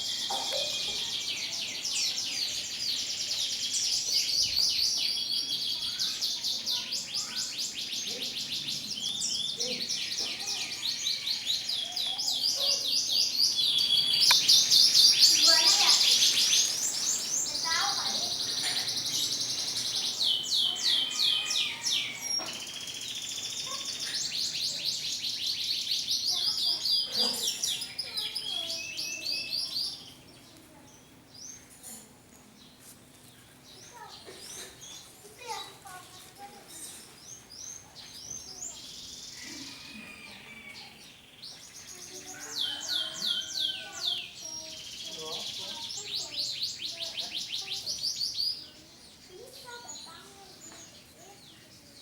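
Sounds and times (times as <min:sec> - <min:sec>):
canaries singing: 0:00.0 - 0:32.0, 0:33.5 - 0:52.0.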